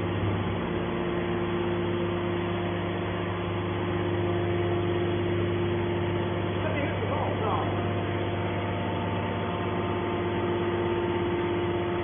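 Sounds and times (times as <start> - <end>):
hydraulic pump motor humming: 0.0 - 12.0.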